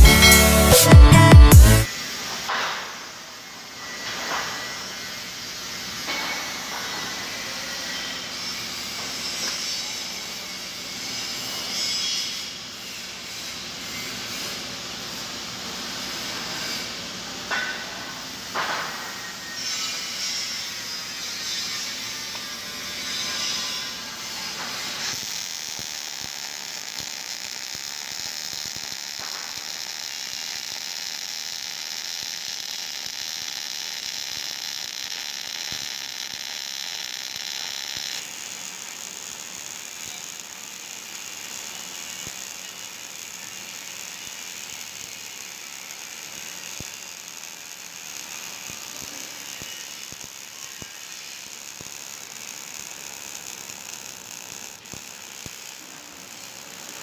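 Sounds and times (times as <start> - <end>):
welding arc crackling: 0.0 - 57.0.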